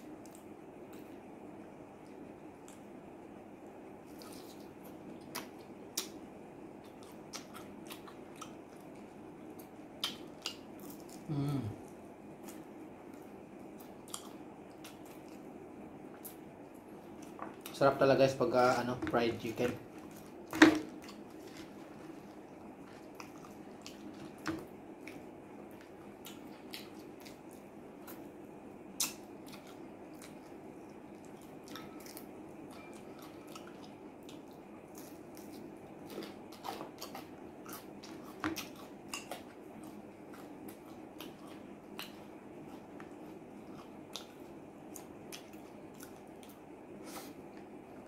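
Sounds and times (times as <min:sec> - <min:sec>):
man chewing with wet smacks: 0:00.0 - 0:17.9, 0:18.6 - 0:48.0.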